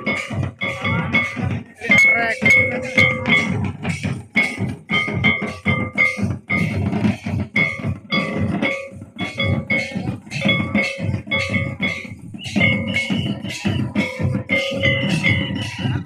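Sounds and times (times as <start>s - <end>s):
barrel drums beating: 0.0s - 16.0s.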